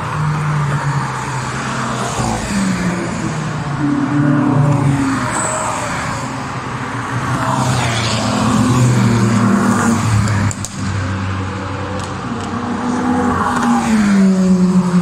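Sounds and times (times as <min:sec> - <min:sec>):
race cars driving past: 0:00.0 - 0:15.0.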